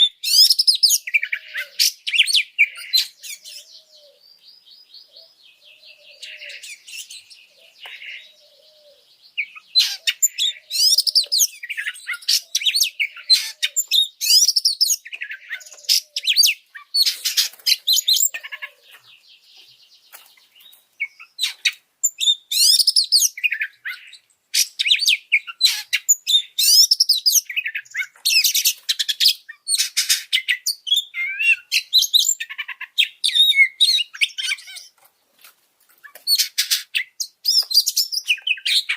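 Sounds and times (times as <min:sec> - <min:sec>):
magpie-robin singing: 0:00.0 - 0:35.0, 0:36.0 - 0:38.9.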